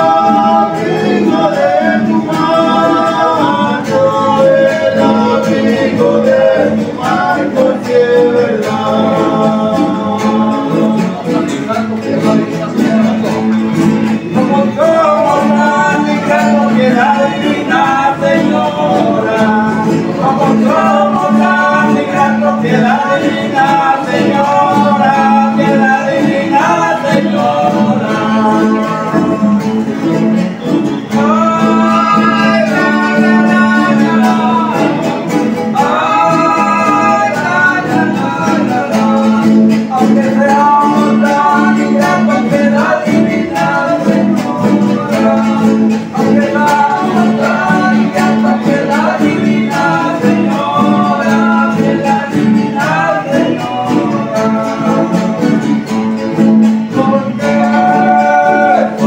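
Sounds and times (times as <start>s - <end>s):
men singing: 0.0s - 59.0s
strummed acoustic guitars: 0.0s - 59.0s.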